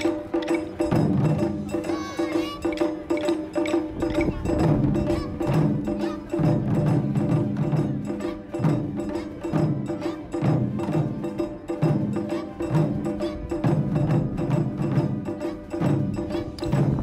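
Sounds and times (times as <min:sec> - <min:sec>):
taiko drums playing: 0:00.0 - 0:17.0.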